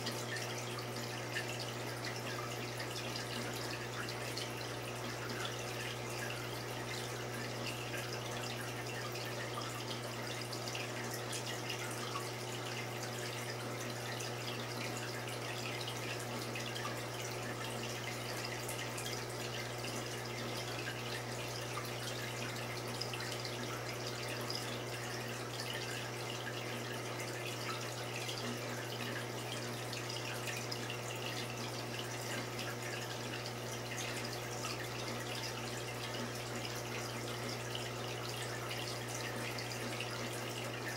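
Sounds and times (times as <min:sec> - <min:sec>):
aquarium water trickling and bubbling: 0:00.0 - 0:40.9.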